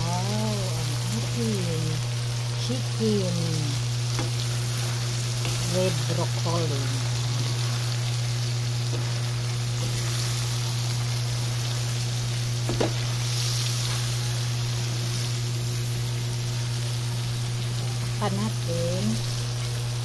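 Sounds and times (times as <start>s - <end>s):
food sizzling in oil: 0.0s - 20.0s
low steady hum: 0.0s - 20.0s.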